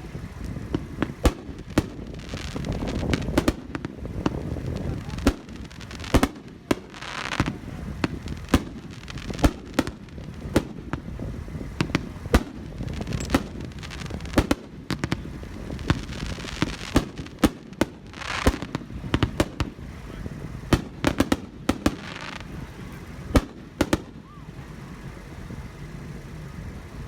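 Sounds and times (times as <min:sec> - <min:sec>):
fireworks booming: 0:00.0 - 0:27.0
fireworks crackling burst: 0:00.0 - 0:27.0.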